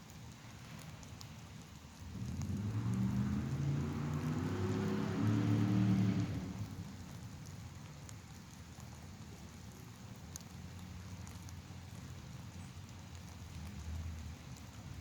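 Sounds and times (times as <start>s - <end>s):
faint raindrop ticks: 0.0s - 15.0s
light rain pattering: 0.0s - 15.0s.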